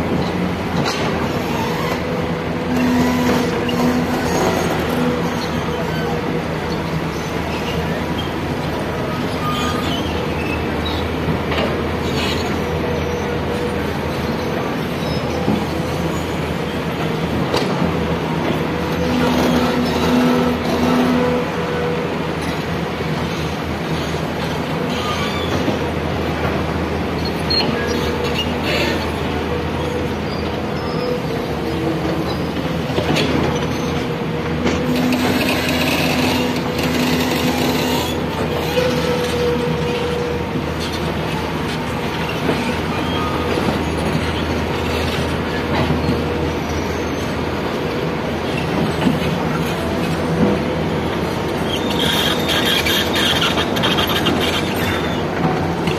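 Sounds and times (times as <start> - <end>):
diesel engine under load: 0.0 - 55.9.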